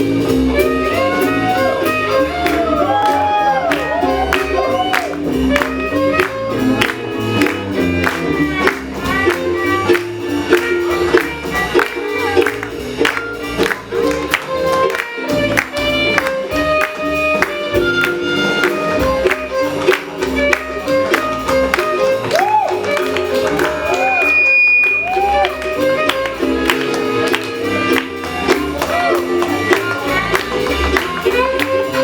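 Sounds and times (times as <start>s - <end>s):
small jazz band playing: 0.0s - 32.0s.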